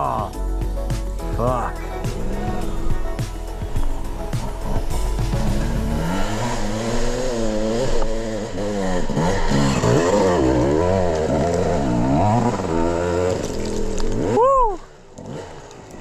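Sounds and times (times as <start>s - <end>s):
dirt bike engine revving: 1.2s - 14.6s, 15.2s - 16.0s.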